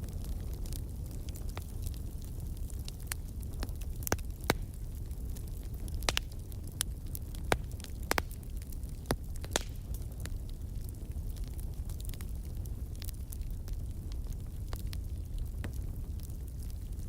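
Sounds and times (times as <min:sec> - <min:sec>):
burning logs crackling and popping: 0:00.0 - 0:17.0
fire flames rumbling: 0:00.0 - 0:17.0.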